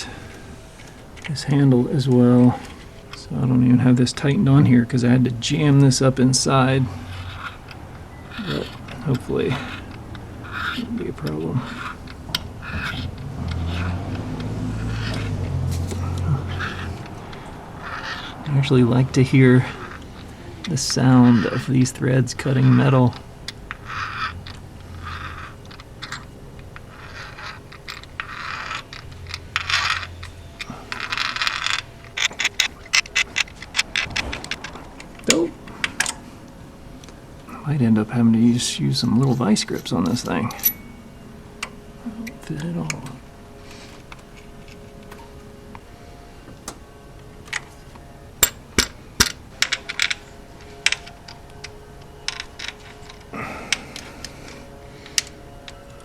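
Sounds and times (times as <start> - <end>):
thread tap scraping metal: 0.0 - 36.3, 41.6 - 56.0
sharp metallic clicks: 0.0 - 37.2, 41.5 - 56.0.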